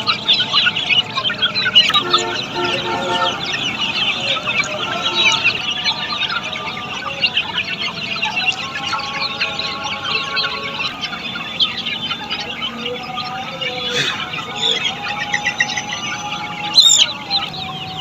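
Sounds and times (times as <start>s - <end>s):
chicken calls: 0.0s - 18.0s
chicks peeping: 0.0s - 18.0s.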